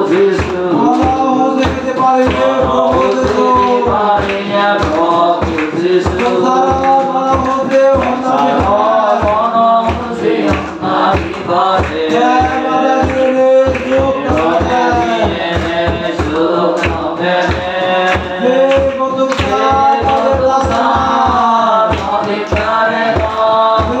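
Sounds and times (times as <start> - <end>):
low thumping beat: 0.0 - 24.0
worship song through loudspeaker: 0.0 - 24.0.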